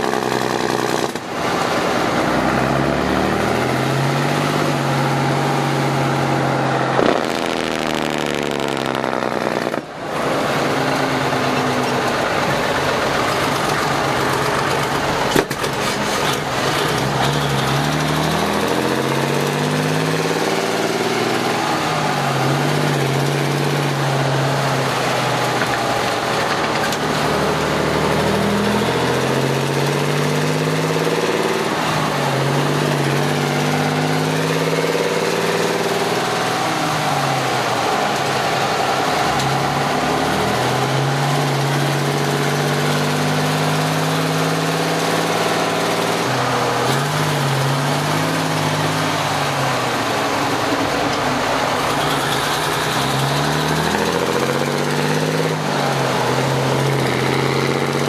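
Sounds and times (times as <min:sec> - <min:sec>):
diesel truck engine shifting gears: 0:00.0 - 0:58.0.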